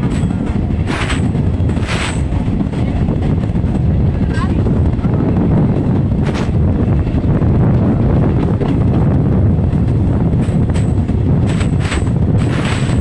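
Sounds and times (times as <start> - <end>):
train rumble: 0.0 - 13.0
wind buffeting microphone: 0.0 - 13.0.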